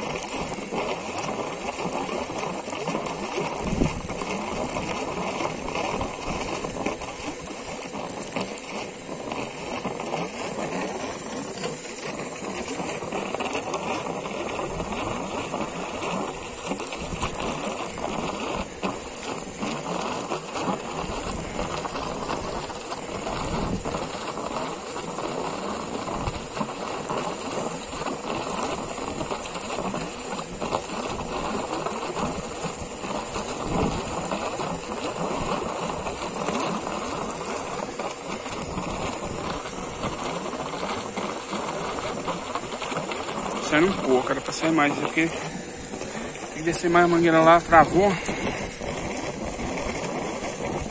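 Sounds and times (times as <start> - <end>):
air and water sputtering from hose: 0.0 - 50.9
air compressor running: 0.0 - 50.9
constant hiss: 0.0 - 50.9.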